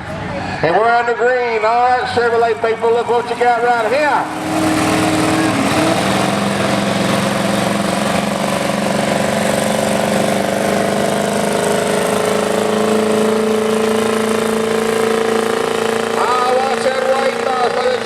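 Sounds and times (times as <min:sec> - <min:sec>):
truck engine at high revs: 0:00.0 - 0:18.0.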